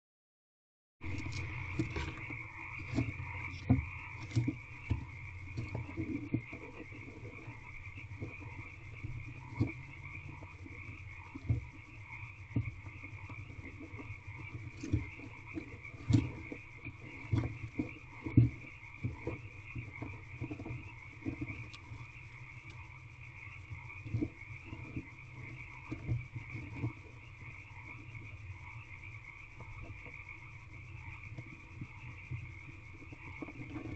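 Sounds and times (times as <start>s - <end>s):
frogs calling: 1.0s - 33.9s.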